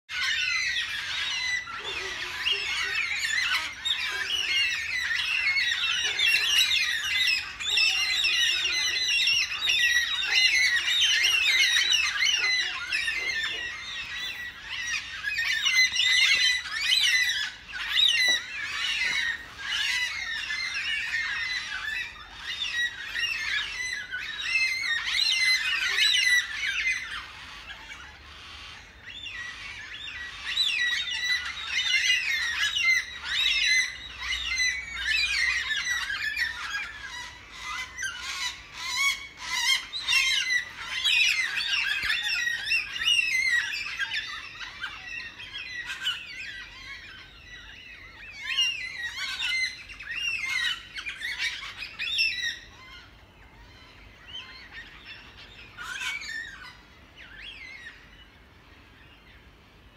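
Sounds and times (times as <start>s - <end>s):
parrots calling: 0.1s - 59.8s.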